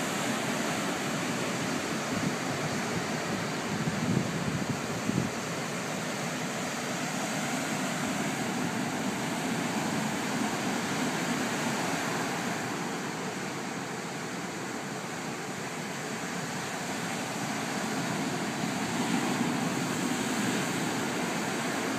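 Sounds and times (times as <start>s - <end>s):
ocean waves breaking: 0.0s - 21.9s.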